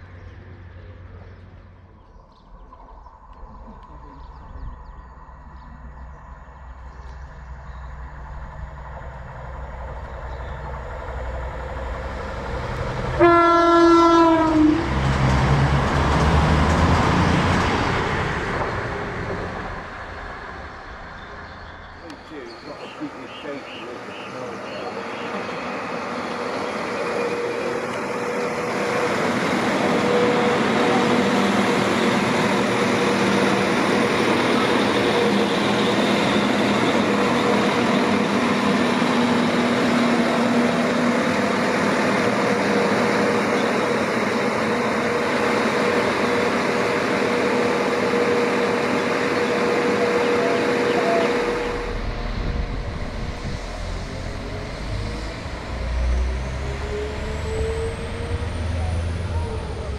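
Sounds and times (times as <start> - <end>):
train whine: 0.0 - 59.9
train wheels rumbling on rail: 5.6 - 59.9.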